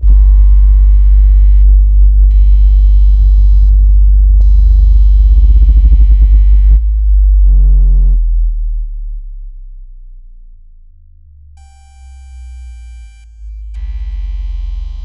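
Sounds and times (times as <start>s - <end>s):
deep pulsing bass tone: 0.0s - 15.0s
low hum: 0.0s - 15.0s.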